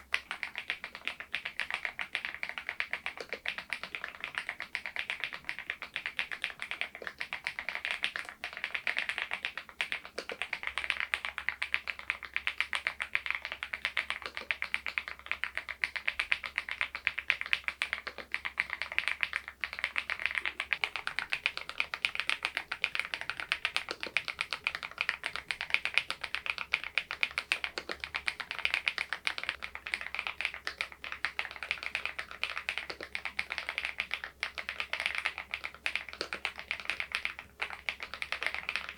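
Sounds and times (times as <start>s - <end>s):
mechanical keyboard typing: 0.1s - 38.9s.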